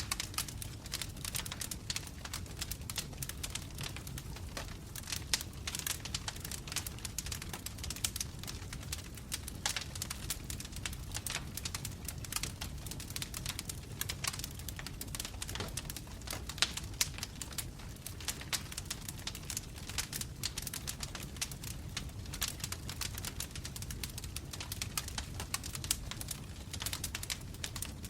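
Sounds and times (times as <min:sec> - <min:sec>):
low rumble of flame: 0:00.0 - 0:28.0
sharp pops of burning logs: 0:00.0 - 0:28.0
wood fire crackling: 0:00.0 - 0:28.0.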